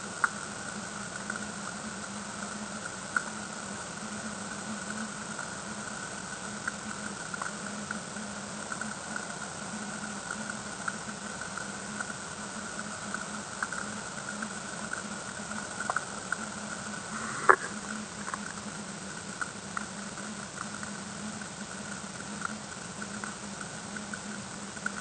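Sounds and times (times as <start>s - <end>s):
faint hiss: 0.0s - 25.0s
low underwater hum: 0.0s - 25.0s.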